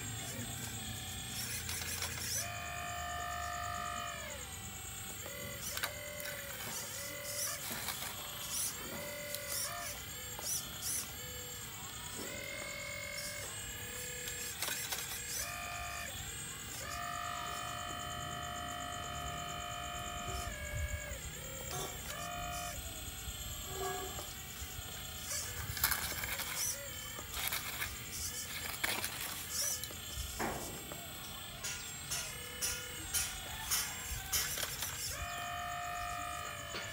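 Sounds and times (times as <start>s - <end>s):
pump motor whining: 0.0s - 36.9s.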